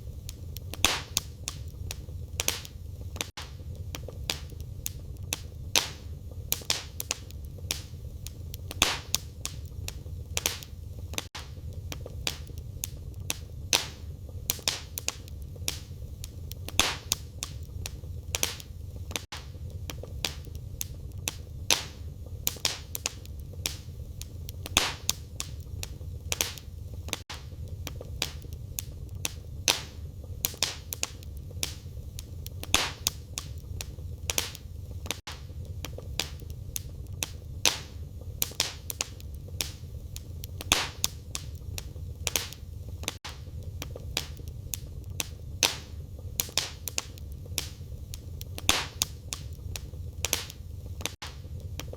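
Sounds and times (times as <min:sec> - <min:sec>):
fire popping and snapping: 0:00.0 - 0:51.9
low rumble of burning: 0:00.0 - 0:51.9
wood fire crackling: 0:00.0 - 0:51.9.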